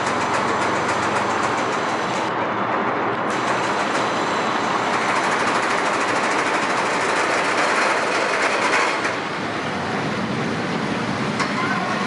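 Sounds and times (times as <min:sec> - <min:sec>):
roller coaster wheels on rail: 0:00.0 - 0:12.0.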